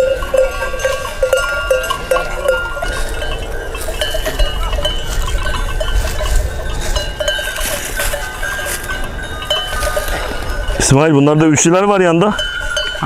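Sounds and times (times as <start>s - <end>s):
sheep bells clanking: 0.0s - 13.0s.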